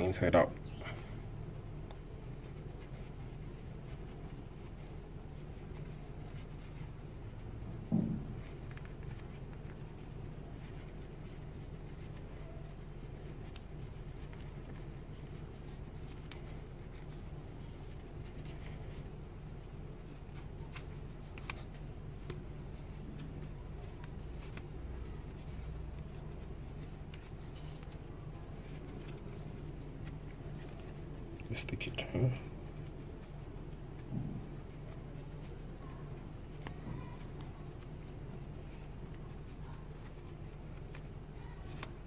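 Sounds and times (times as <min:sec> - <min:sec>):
fabric rustling: 0:00.0 - 0:42.0
steady low hum: 0:00.0 - 0:42.0.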